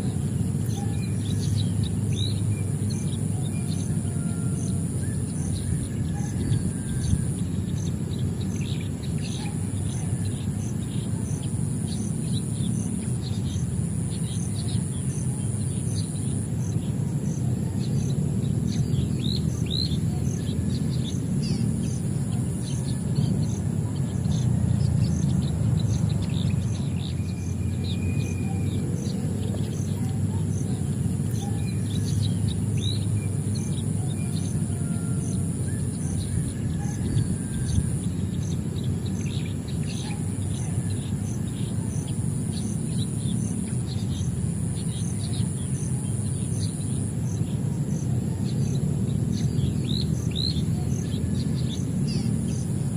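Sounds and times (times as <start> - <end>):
pulsing high-pitched insect drone: 0.0 - 52.9
small birds chirping: 0.0 - 52.9.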